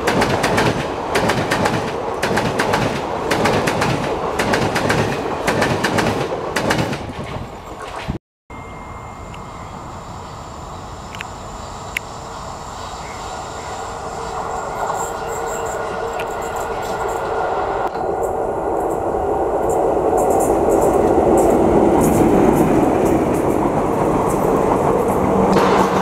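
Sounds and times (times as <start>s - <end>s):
passing train rumble: 0.0s - 26.0s.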